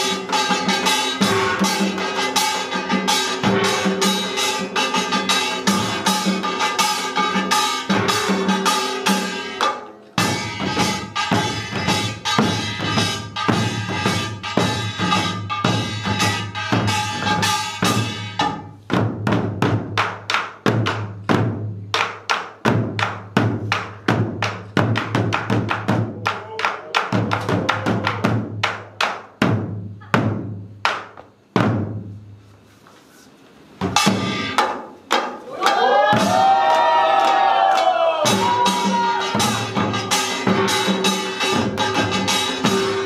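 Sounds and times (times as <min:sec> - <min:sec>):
fast drumming ensemble: 0:00.0 - 0:32.1, 0:33.8 - 0:43.0.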